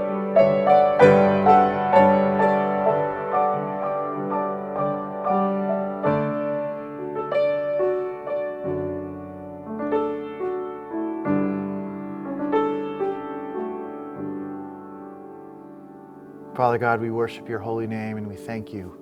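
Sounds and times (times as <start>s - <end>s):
piano chords and melody: 0.0s - 19.0s.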